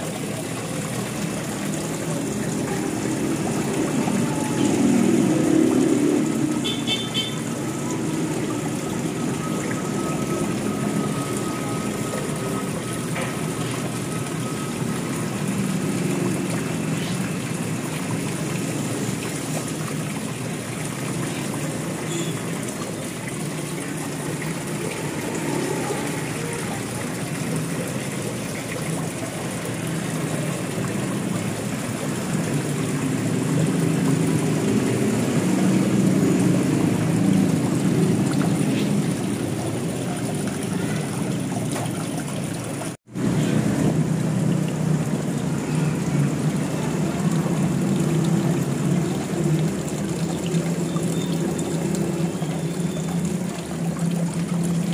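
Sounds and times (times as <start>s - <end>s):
small waterfall splashing into pond: 0.0s - 54.9s.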